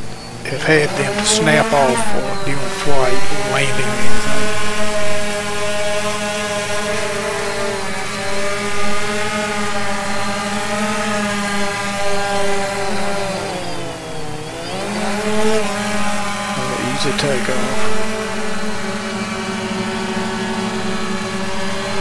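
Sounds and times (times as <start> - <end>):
quadcopter propellers buzzing: 0.0 - 22.0.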